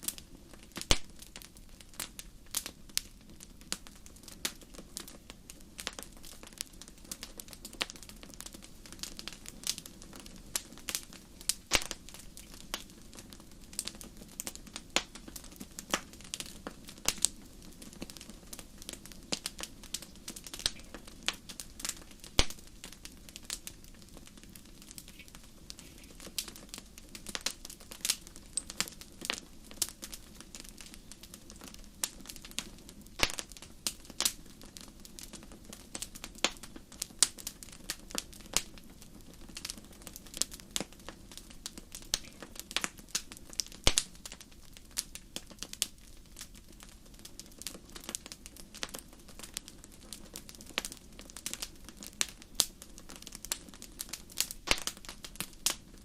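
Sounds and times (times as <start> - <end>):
hiss of burning logs: 0.0 - 56.0
wood fire crackling: 0.0 - 56.0.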